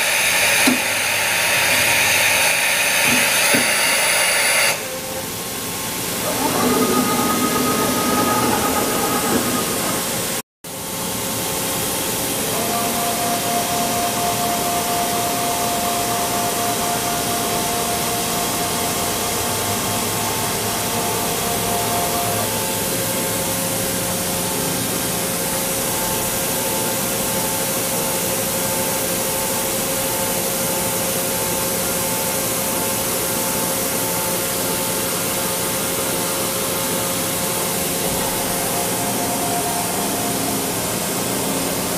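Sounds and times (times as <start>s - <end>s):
hissing machine noise: 0.0s - 41.9s.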